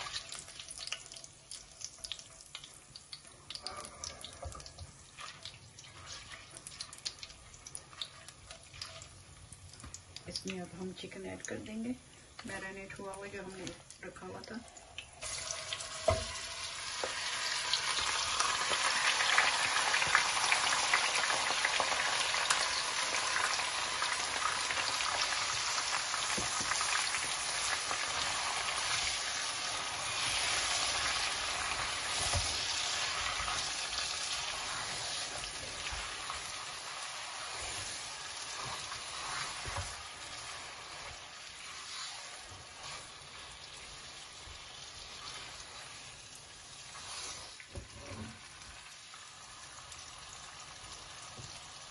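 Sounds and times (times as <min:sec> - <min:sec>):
chicken sizzling in hot oil: 0:00.0 - 0:51.9.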